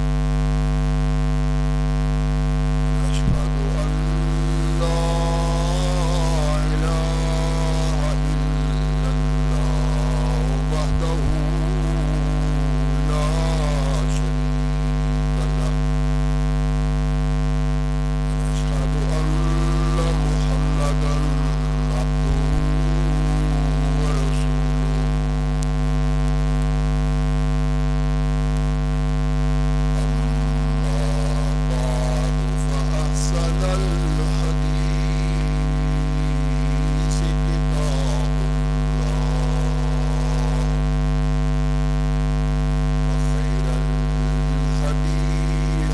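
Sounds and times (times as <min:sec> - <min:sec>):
loud mains hum and buzz: 0:00.0 - 0:45.9
faint man's voice: 0:02.6 - 0:16.8, 0:18.1 - 0:27.2, 0:29.8 - 0:45.9.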